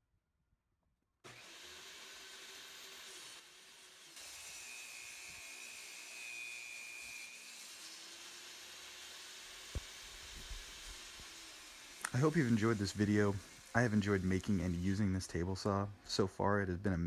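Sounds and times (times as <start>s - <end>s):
table saw ripping plywood: 1.3s - 15.0s.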